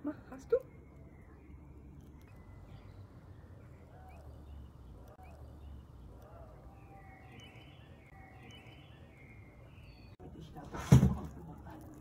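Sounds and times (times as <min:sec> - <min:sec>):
birds chirping and twittering: 0:00.0 - 0:10.3.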